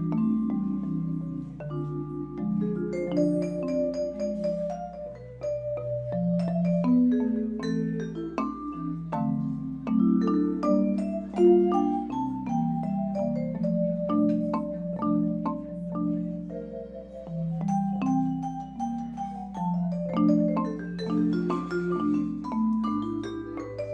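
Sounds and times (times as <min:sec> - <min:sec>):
mallet percussion music: 0:00.0 - 0:23.9.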